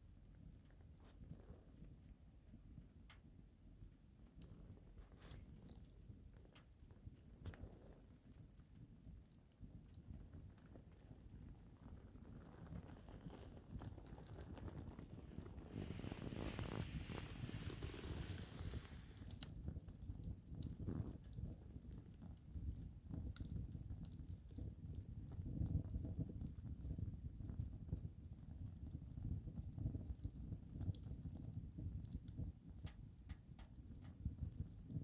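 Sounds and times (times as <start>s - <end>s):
fire pops and snaps: 0.0s - 35.0s
wood fire crackling: 0.0s - 35.0s.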